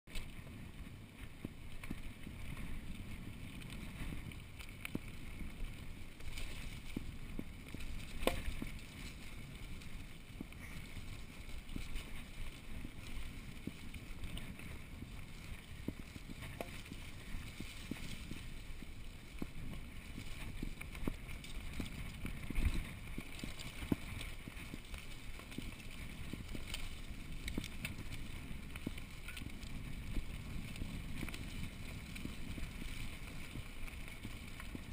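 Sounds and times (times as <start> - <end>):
bike frame rattling: 0.1 - 34.9
bike tyres rumbling on dirt: 0.1 - 34.9.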